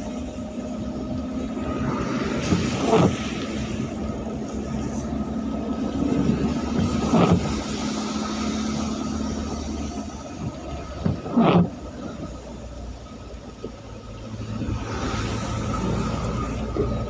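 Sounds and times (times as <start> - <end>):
low engine hum: 0.0 - 17.0
rain and tyres hissing: 0.0 - 17.0
vehicles passing: 0.0 - 17.0.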